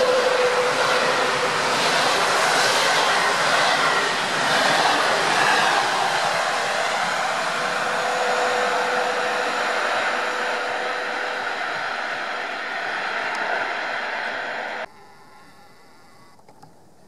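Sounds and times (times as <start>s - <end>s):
train wheels on rails rushing: 0.0s - 14.9s.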